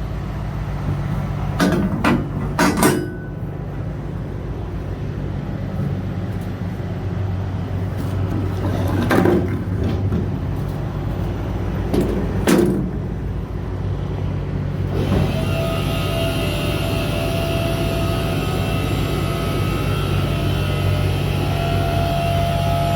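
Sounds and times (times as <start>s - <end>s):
truck diesel engine running: 0.0s - 22.9s.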